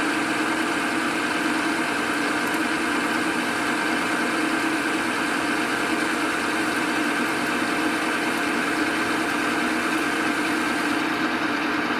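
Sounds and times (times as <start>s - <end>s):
metal lathe humming and whining: 0.0s - 11.9s.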